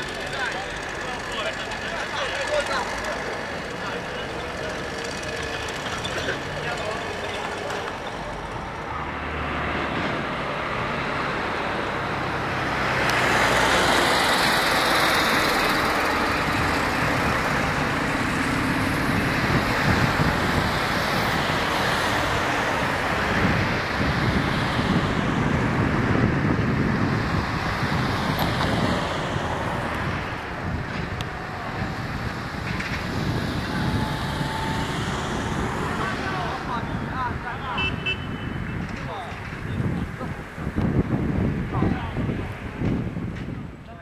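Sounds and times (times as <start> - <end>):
passing cars rushing: 0.0 - 44.0.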